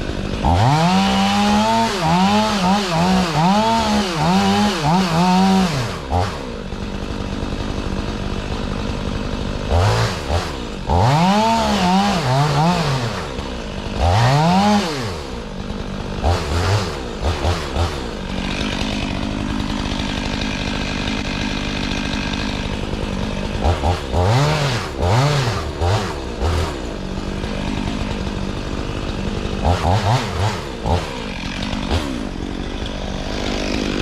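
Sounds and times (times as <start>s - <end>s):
chainsaw revving: 0.0s - 34.0s.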